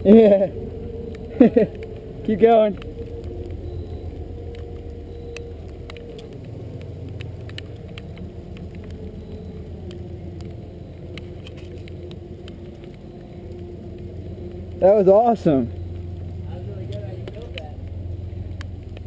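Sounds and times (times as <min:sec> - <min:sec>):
distant engine drone: 0:00.0 - 0:19.0.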